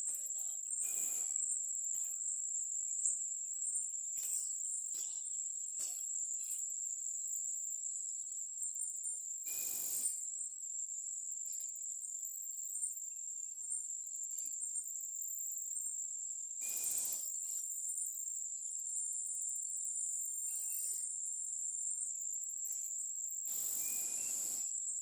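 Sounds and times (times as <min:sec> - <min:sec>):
insect chorus drone: 0:00.2 - 0:24.9.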